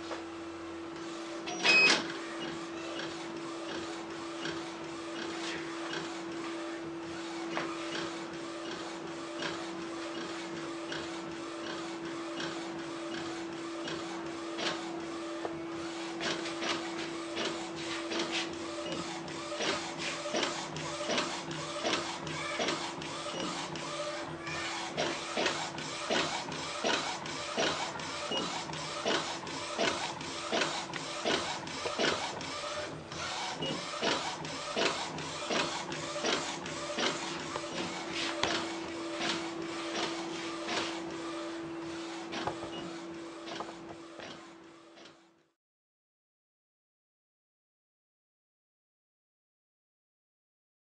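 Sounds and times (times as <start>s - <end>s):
printer hum: 0.0s - 45.3s.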